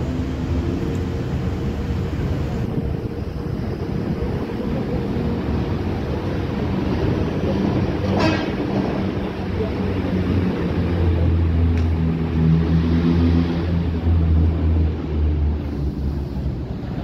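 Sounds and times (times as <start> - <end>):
heavy vehicle engines rumbling: 0.0 - 17.0.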